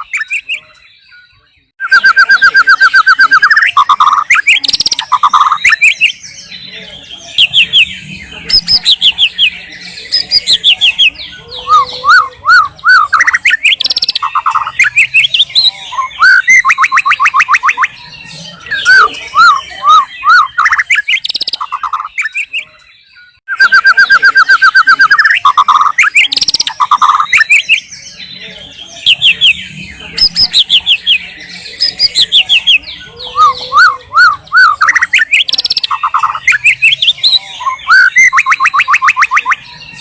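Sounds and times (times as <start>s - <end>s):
bird singing trills and whistles: 0.0s - 40.0s.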